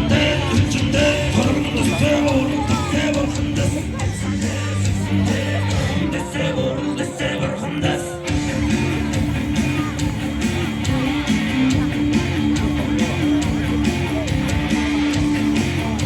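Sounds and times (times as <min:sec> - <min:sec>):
strummed guitar music: 0:00.0 - 0:16.0.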